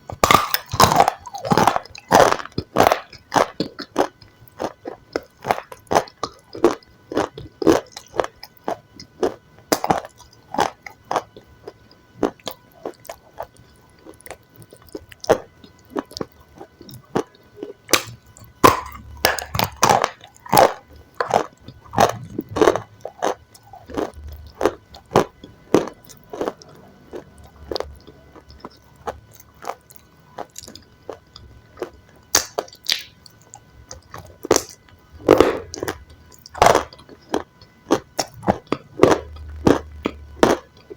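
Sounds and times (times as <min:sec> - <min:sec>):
crunchy food being chewed: 0:00.0 - 0:40.9.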